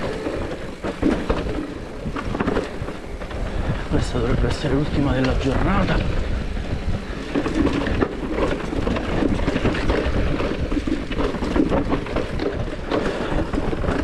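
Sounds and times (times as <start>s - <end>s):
bike rattling over bumps: 0.0s - 14.0s.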